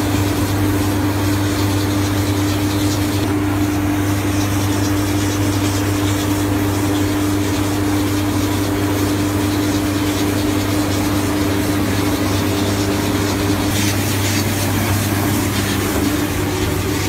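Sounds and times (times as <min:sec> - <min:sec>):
machine engine drone: 0:00.0 - 0:17.0.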